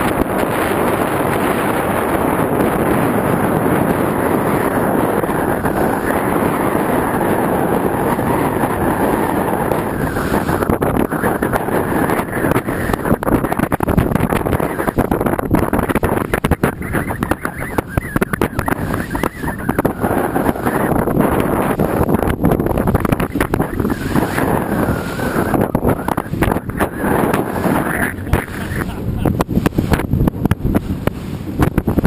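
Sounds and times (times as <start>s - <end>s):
boat and water rushing: 0.0s - 32.0s
wind buffeting microphone: 0.0s - 32.0s.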